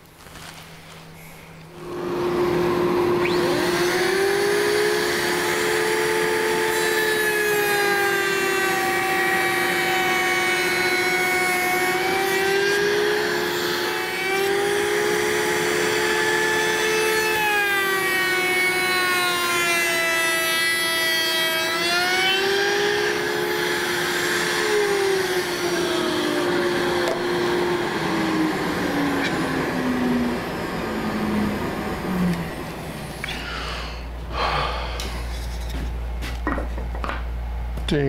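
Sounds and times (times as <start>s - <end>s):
router motor whining: 1.7s - 33.6s.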